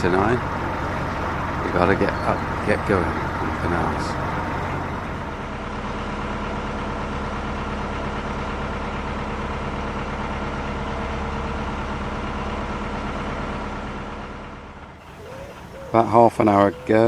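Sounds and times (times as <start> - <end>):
diesel boat engine drone: 0.0 - 17.0.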